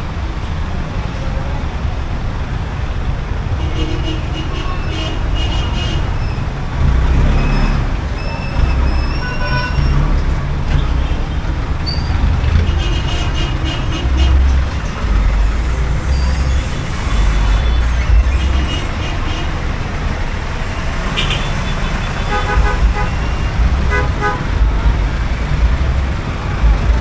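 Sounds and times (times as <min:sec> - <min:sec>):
vehicles passing close by: 0:00.0 - 0:27.0.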